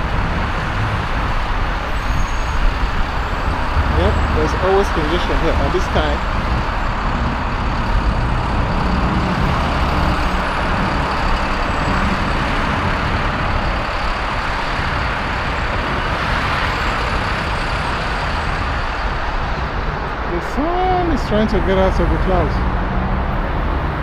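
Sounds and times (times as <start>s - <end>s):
highway traffic roar: 0.0s - 24.0s.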